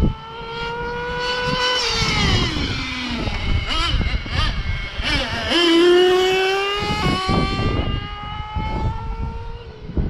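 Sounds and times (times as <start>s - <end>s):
small nitro engine buzzing: 0.0s - 10.0s.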